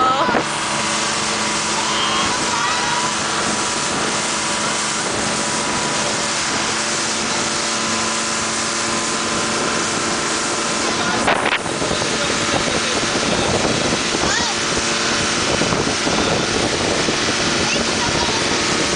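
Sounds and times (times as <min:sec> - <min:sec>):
churning wake rushing: 0:00.0 - 0:18.9
motorboat engine running: 0:00.0 - 0:18.9
wind buffeting the microphone: 0:00.0 - 0:18.9.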